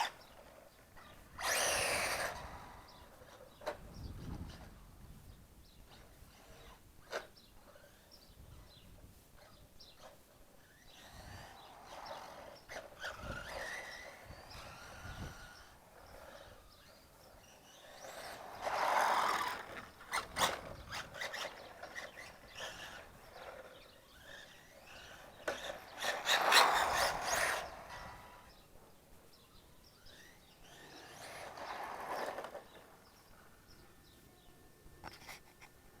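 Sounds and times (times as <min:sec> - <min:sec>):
rc truck motor and tyres passing: 0:00.0 - 0:36.0.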